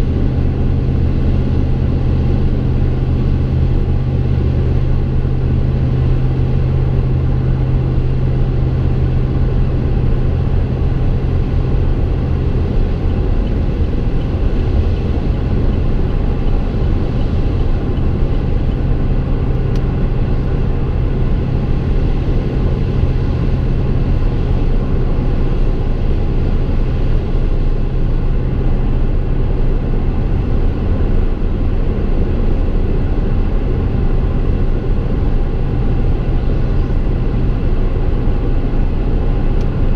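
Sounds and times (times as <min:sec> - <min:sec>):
exhaust drone inside car cab: 0:00.0 - 0:39.9
road noise: 0:00.0 - 0:39.9.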